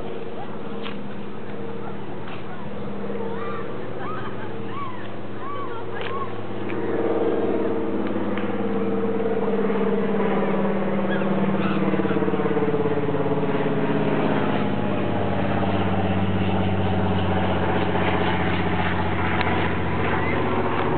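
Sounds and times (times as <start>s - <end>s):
low engine drone: 0.0s - 20.9s.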